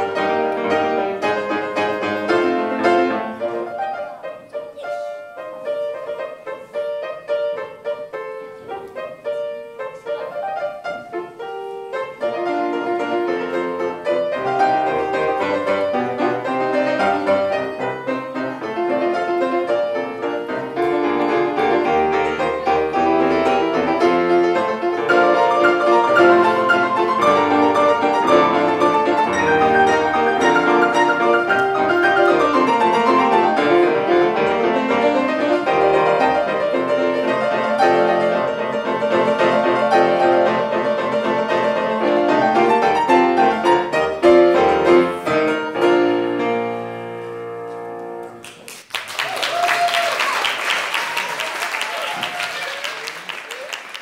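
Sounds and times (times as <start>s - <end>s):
lively piano piece: 0.0s - 54.0s.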